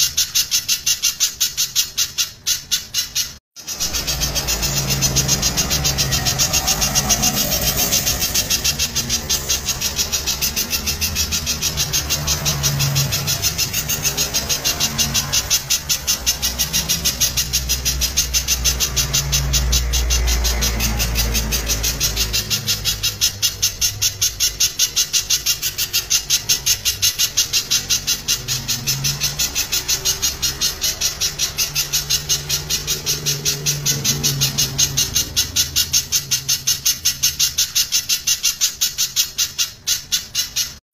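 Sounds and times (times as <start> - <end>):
bird calling sharp high notes: 0.0 - 40.8
faint other birds: 0.0 - 40.8.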